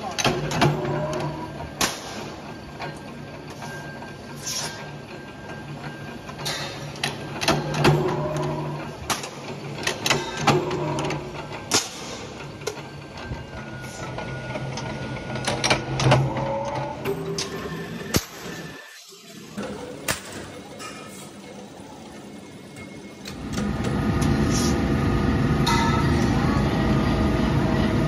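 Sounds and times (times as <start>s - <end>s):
metal press humming: 0.0s - 28.0s.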